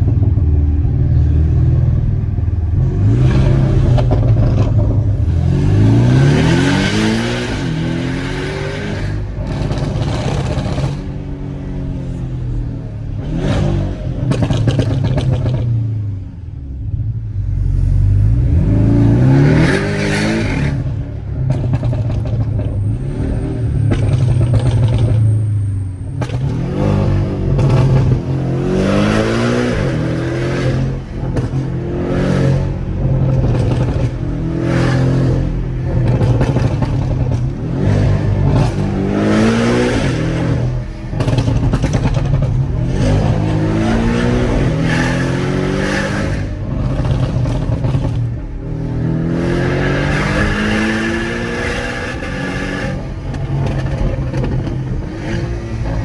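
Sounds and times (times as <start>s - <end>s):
car engine revving: 0.0s - 56.0s
exhaust crackles: 0.0s - 56.0s.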